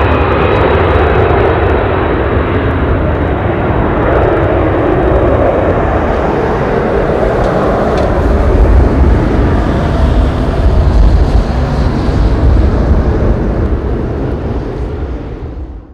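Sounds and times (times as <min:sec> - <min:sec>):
jet engine noise: 0:00.0 - 0:15.9
wind rumbling on microphone: 0:00.0 - 0:15.9.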